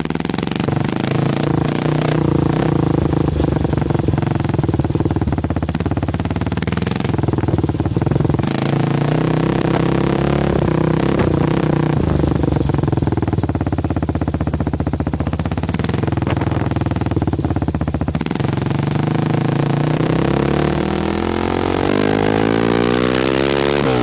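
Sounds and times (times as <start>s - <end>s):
distorted engine exhaust revving: 0.0s - 24.0s.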